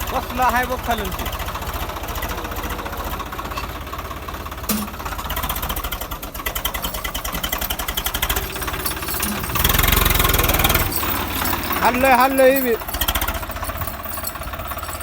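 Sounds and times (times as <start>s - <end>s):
tractor diesel engine knocking: 0.0s - 15.0s.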